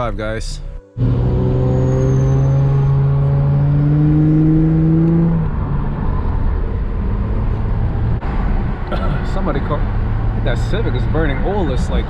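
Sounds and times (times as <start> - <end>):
car engine accelerating: 1.0 - 12.0.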